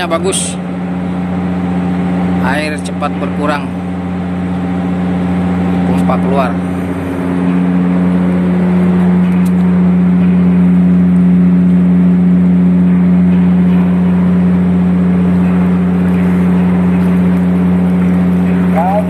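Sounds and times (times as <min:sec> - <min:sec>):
bilge pump humming: 0:00.0 - 0:19.0.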